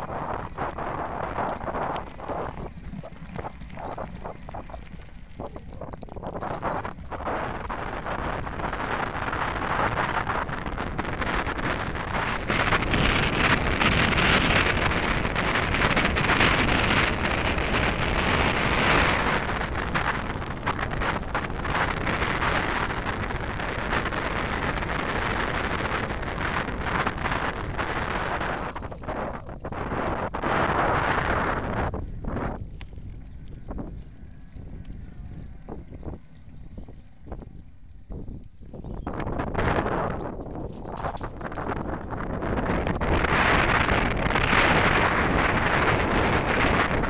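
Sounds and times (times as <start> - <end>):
tyres rolling on gravel: 0.0 - 37.7
bike rattling: 0.0 - 47.0
wind buffeting microphone: 0.0 - 47.0.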